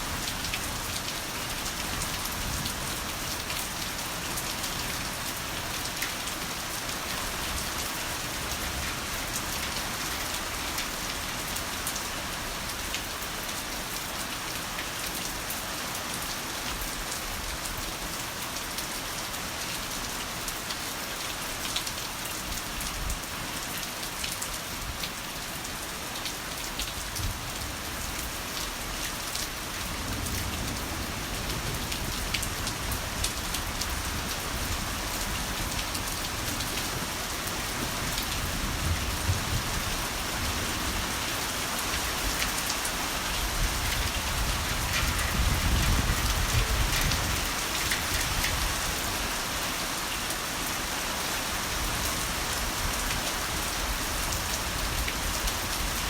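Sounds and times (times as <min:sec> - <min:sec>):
heavy rain falling: 0:00.0 - 0:56.0
raindrops ticking on surfaces: 0:00.0 - 0:56.0.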